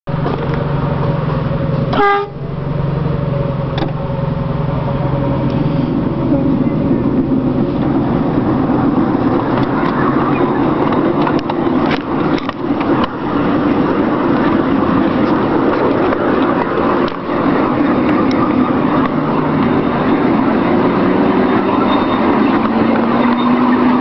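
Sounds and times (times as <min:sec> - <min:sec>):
locomotive running on track: 0:00.1 - 0:24.0
wheels clicking on rails: 0:03.4 - 0:24.0.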